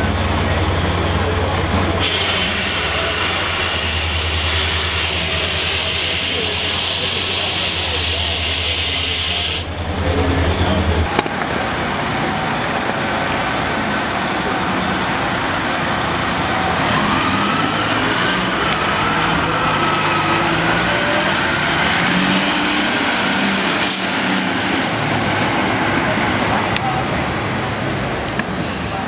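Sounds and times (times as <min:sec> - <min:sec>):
fire truck diesel engine running: 0:00.0 - 0:29.0.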